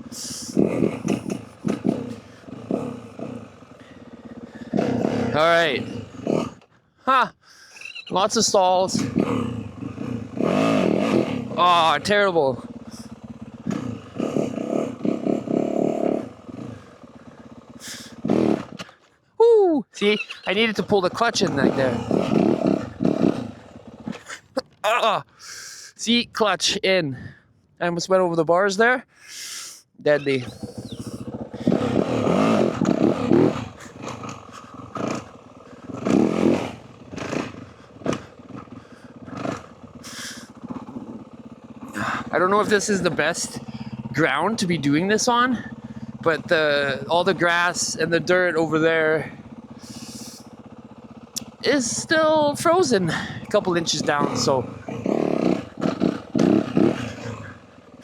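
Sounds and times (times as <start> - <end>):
dirt bike engine revving: 0.0 - 7.2, 7.9 - 19.1, 20.0 - 24.8, 30.1 - 58.0.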